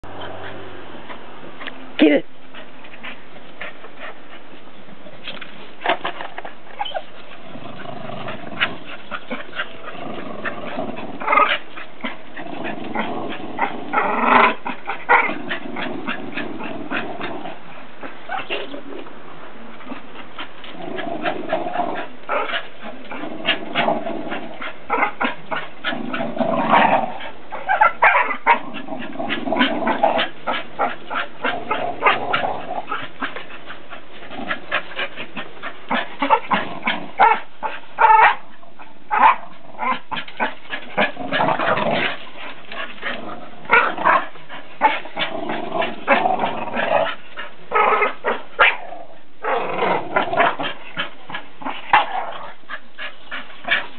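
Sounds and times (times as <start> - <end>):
dogs growling: 5.9 - 53.9.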